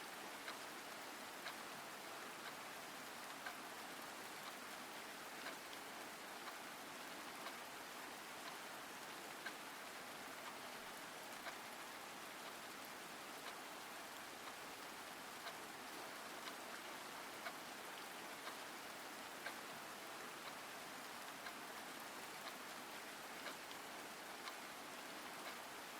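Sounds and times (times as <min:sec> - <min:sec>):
steady rain hiss: 0:00.0 - 0:25.9.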